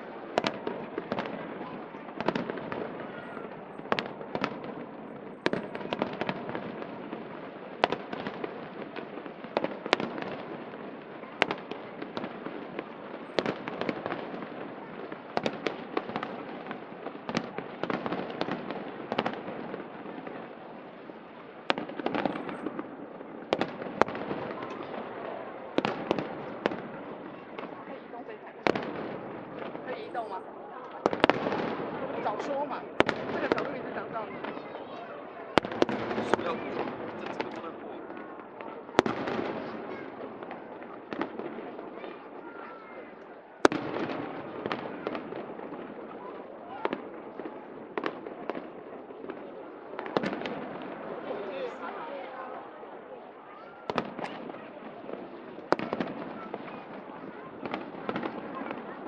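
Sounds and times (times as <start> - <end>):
sharp fireworks bangs: 0.0 - 43.0, 43.6 - 52.0, 53.4 - 59.0
fireworks crackle and rumble: 0.0 - 59.0.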